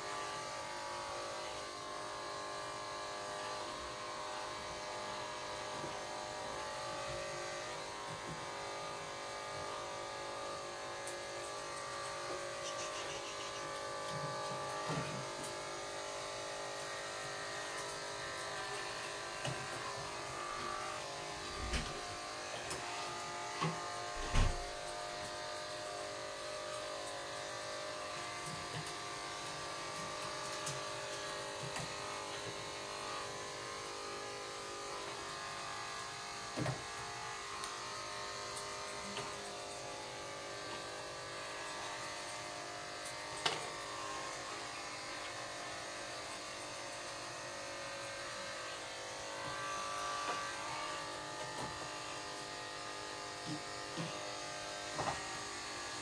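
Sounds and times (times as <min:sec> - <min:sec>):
small motor humming: 0:00.0 - 0:56.0.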